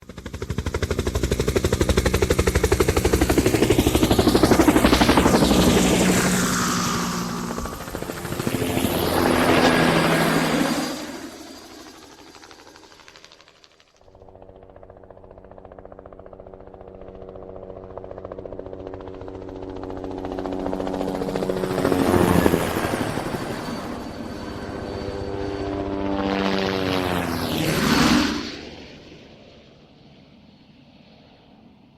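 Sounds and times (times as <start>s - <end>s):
helicopter rotor beating: 0.0s - 29.6s.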